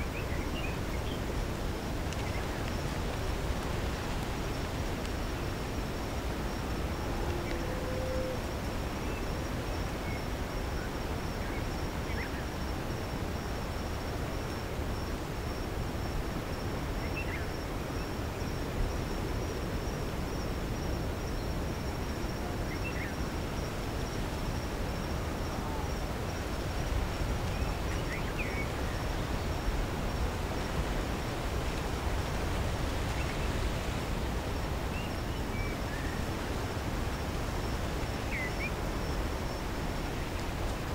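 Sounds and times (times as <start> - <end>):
faint insect trill: 0.0 - 40.9.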